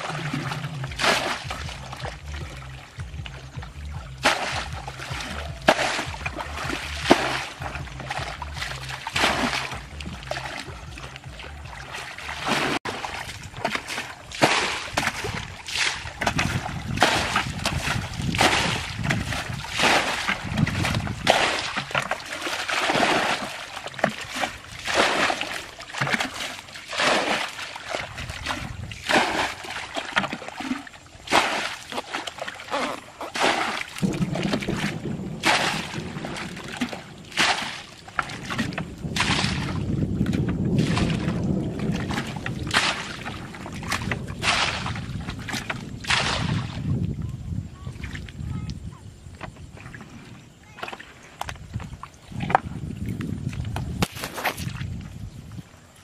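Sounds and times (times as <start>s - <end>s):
bucket scooping and splashing water: 0.0s - 56.0s.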